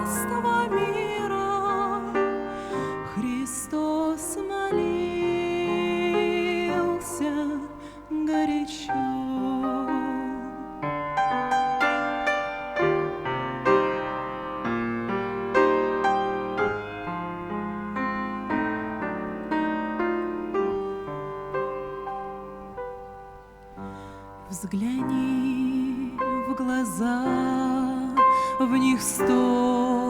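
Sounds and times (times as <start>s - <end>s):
slow gentle piano: 0.0s - 30.0s.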